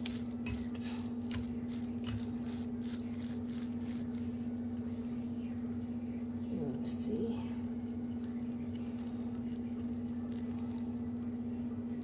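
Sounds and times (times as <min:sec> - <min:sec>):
wet squishing of noodles: 0:00.0 - 0:06.0, 0:07.5 - 0:11.8
steady low hum: 0:00.0 - 0:12.0.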